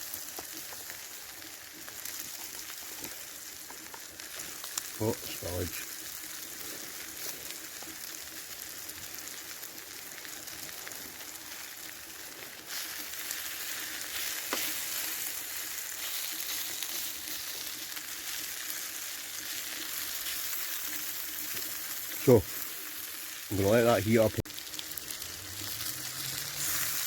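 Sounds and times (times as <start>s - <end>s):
food sizzling in a pot: 0.0s - 27.0s.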